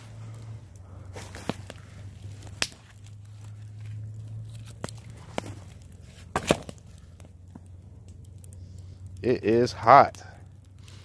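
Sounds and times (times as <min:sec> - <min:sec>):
campfire crackling: 0:00.0 - 0:11.0
low steady hum: 0:00.0 - 0:11.0
sharp fire pops: 0:00.8 - 0:11.0.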